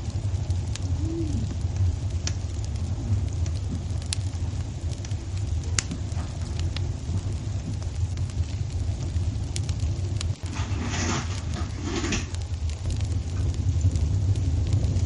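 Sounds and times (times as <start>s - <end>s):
fire crackles and pops: 0.0s - 15.0s
log fire rumbling: 0.0s - 15.0s.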